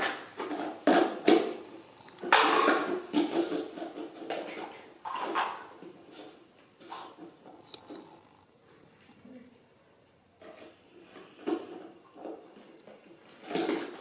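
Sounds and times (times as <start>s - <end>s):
plastic toys clattering on tiles: 0.0s - 7.6s, 10.4s - 14.0s.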